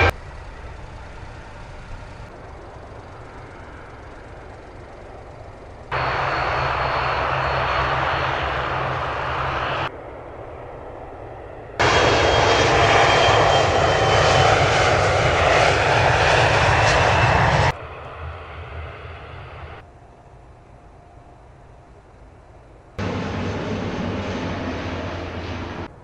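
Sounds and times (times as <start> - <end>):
airliner engine rushing with whine: 0.0 - 26.0.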